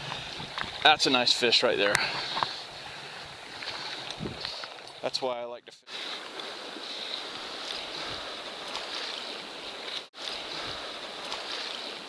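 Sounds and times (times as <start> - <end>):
river water rushing: 0.0 - 5.0, 5.9 - 12.0.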